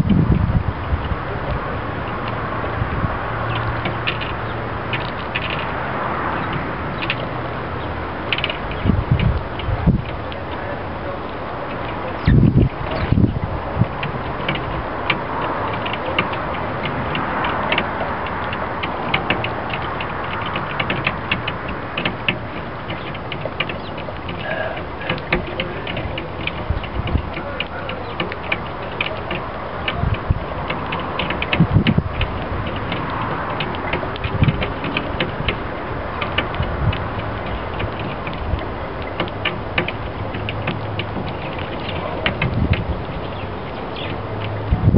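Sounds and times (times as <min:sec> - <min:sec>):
low thumps: 0:00.0 - 0:44.9.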